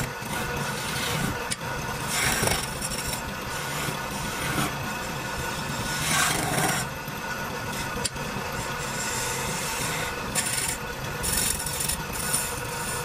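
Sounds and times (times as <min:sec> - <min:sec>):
lathe chisel scraping wood: 0:00.0 - 0:07.0, 0:07.6 - 0:13.0.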